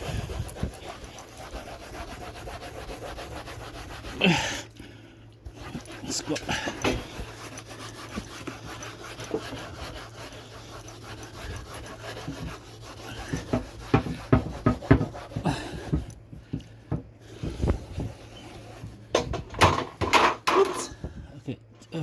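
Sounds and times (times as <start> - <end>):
towel scrubbing a door: 0.0 - 4.8, 5.5 - 19.2.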